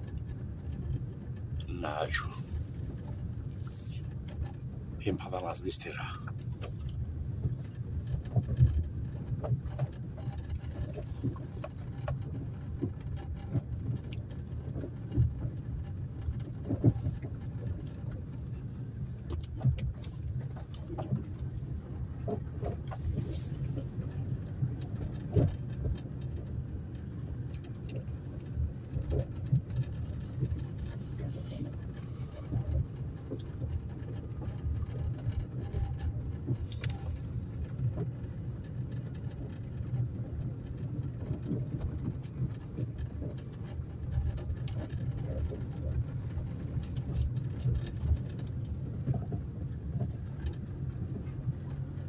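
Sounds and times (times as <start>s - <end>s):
car engine and road rumble: 0.0s - 52.0s.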